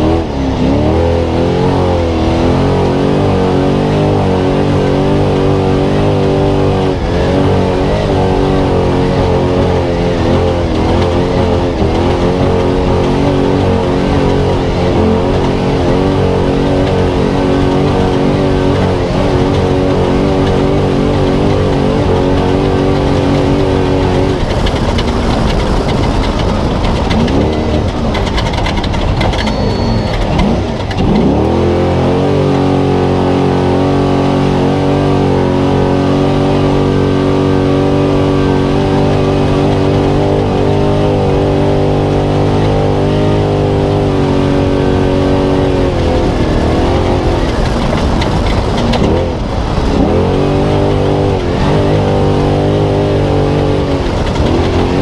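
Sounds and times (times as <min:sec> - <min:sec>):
truck engine racing: 0:00.0 - 0:55.0.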